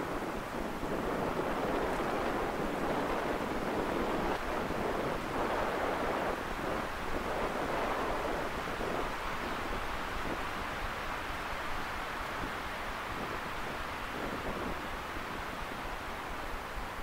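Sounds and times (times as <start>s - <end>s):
strong wind blowing: 0.0s - 17.0s.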